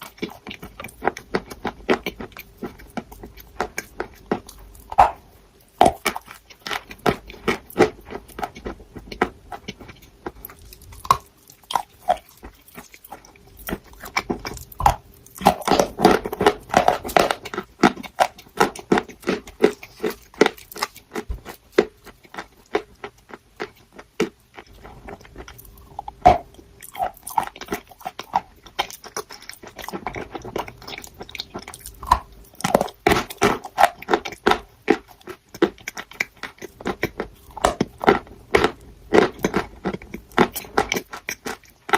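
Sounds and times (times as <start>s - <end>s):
chalk being chewed: 0.0s - 41.9s.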